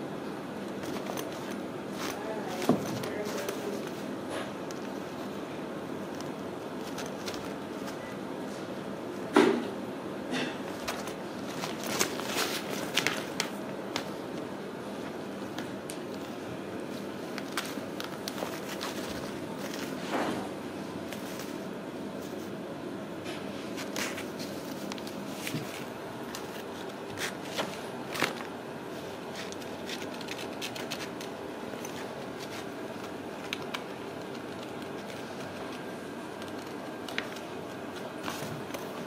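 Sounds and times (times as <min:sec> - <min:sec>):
room noise: 0:00.0 - 0:39.0
kittens scratching fabric: 0:00.6 - 0:08.7, 0:10.6 - 0:22.6, 0:23.5 - 0:39.0.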